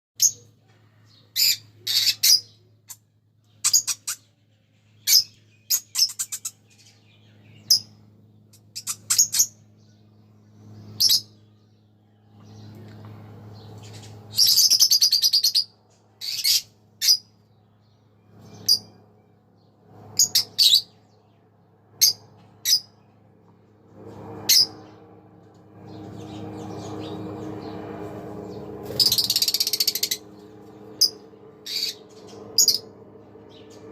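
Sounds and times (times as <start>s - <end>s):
lovebirds chirping: 0.2s - 23.2s, 28.5s - 33.9s
steady low hum: 0.3s - 33.9s.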